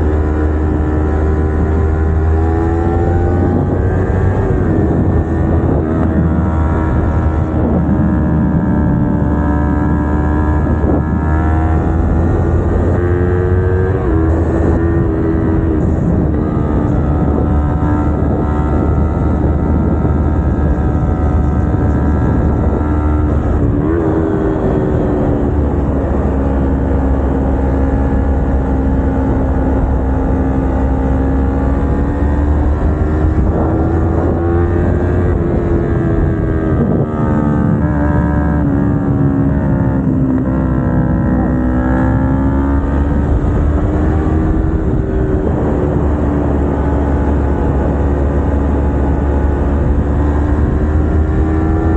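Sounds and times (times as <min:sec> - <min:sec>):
low wind rumble: 0:00.0 - 0:51.9
motorcycle engine running: 0:00.0 - 0:51.9.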